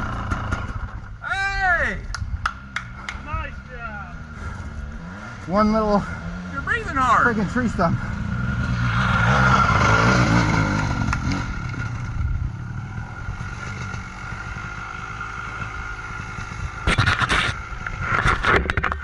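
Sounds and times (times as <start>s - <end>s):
two-stroke dirt bike engine: 0.0s - 1.2s, 2.6s - 19.0s.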